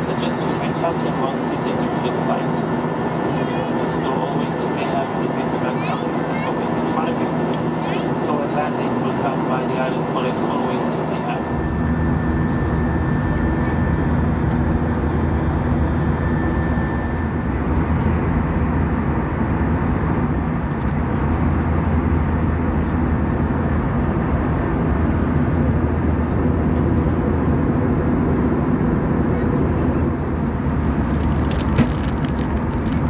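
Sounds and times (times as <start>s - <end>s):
jet engine drone: 0.0s - 33.0s.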